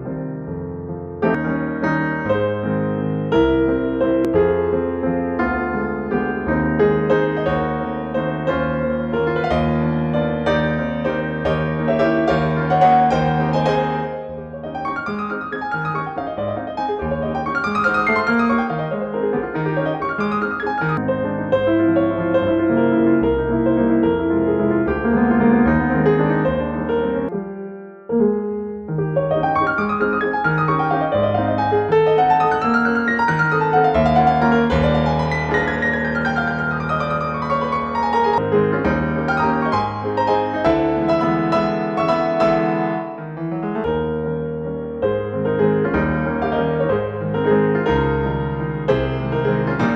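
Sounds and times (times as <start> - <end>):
gentle piano music: 0.0 - 49.9.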